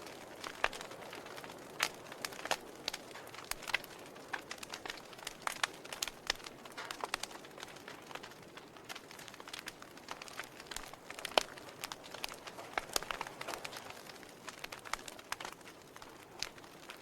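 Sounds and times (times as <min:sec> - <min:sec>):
soft hiss of flames: 0:00.0 - 0:17.0
wood fire crackling and popping: 0:00.0 - 0:17.0.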